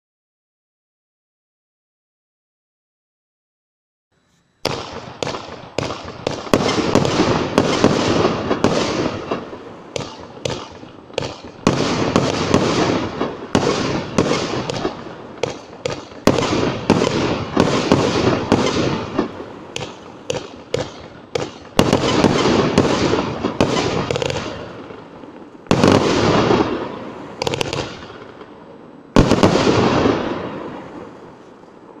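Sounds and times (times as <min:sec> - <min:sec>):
firework reports: 0:04.6 - 0:32.0.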